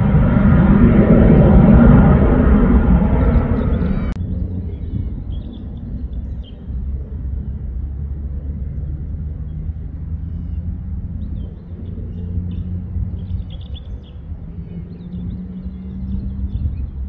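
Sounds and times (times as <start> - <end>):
distant jet engines rumbling: 0.0 - 17.0.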